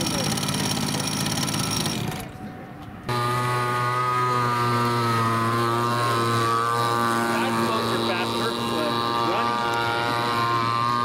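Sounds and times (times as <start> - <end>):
model two-stroke engine buzzing: 0.0 - 11.0.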